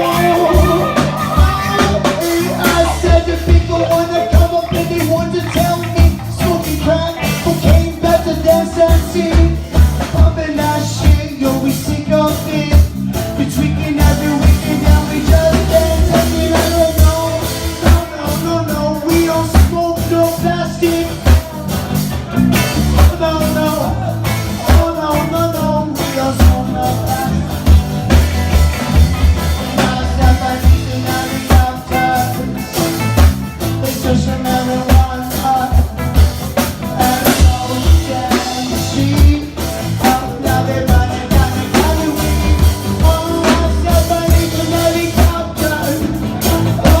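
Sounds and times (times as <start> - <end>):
drum kit beat: 0.0 - 47.0
live reggae band playing: 0.0 - 47.0.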